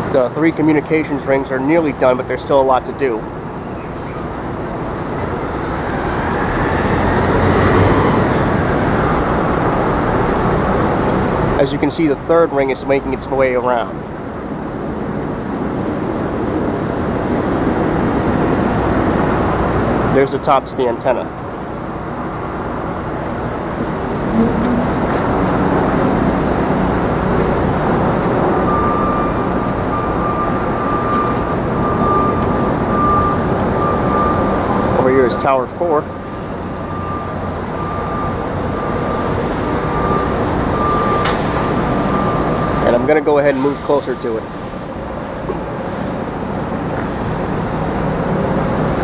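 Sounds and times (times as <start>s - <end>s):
passing motor vehicle rumble: 0.0s - 49.0s.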